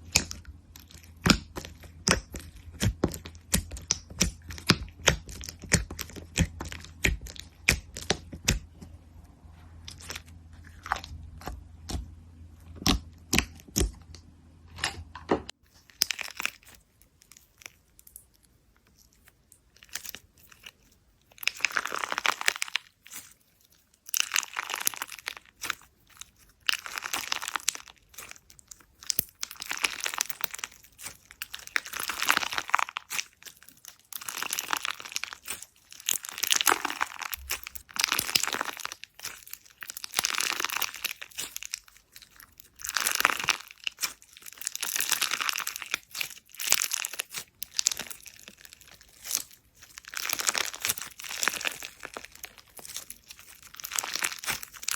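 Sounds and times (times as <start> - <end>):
slime crackling: 0.0 - 14.1, 15.7 - 54.9.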